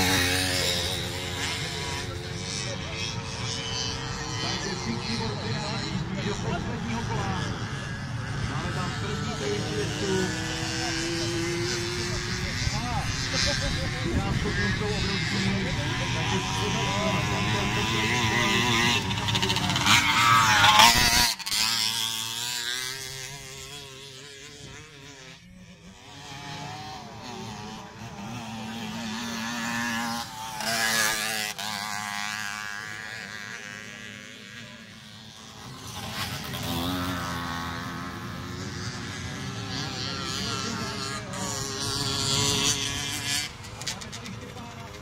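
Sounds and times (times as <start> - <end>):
motocross bikes revving: 0.0 - 45.0.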